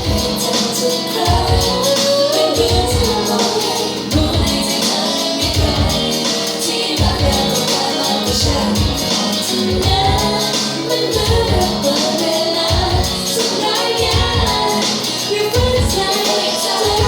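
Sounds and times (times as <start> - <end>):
band playing a song with vocals: 0.0 - 17.0.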